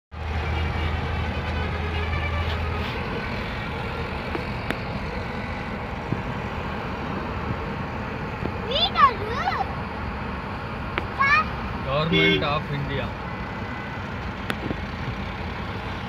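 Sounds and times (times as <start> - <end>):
car cabin road rumble: 0.2 - 16.0.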